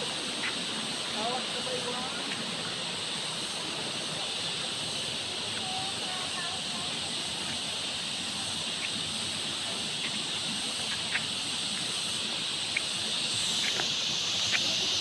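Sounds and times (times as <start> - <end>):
high hiss: 0.0 - 15.0.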